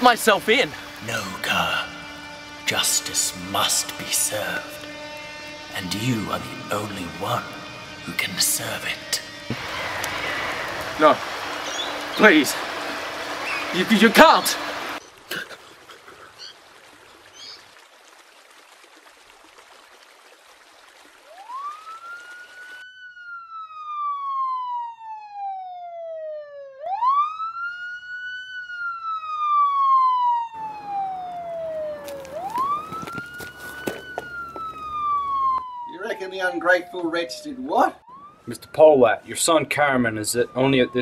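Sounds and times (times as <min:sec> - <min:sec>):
police siren wailing: 0:00.0 - 0:15.0, 0:21.2 - 0:41.0.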